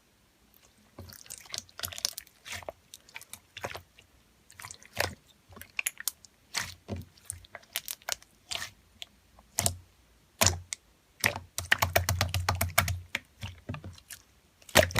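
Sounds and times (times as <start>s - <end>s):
slime squished by hand: 0.9s - 9.8s, 10.4s - 14.9s.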